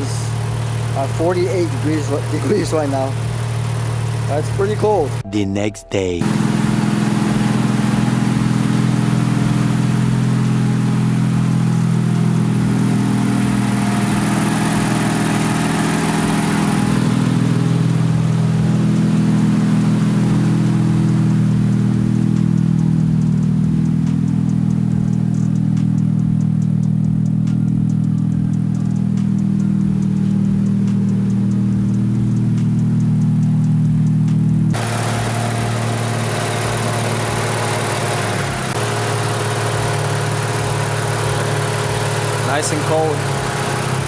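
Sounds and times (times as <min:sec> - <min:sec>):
car engine running steadily: 0:00.0 - 0:05.4, 0:06.0 - 0:44.0.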